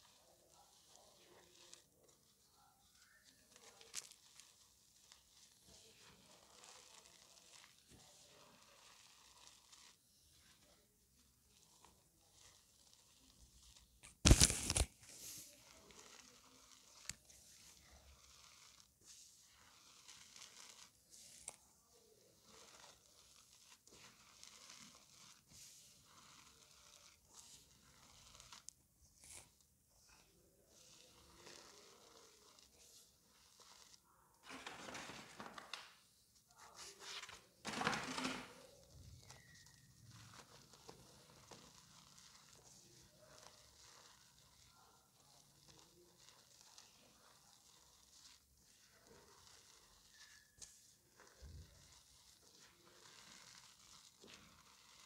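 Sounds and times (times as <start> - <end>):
chalk crunching and crackling: 0.0 - 55.0.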